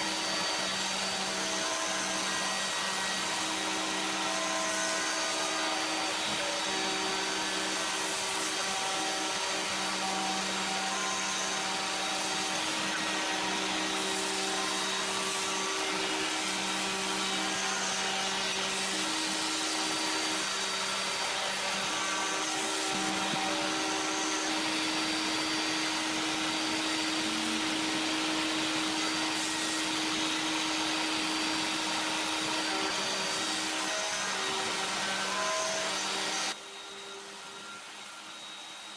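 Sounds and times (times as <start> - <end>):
router spindle whine: 0.0 - 38.9
vacuum cleaner running: 0.0 - 38.9.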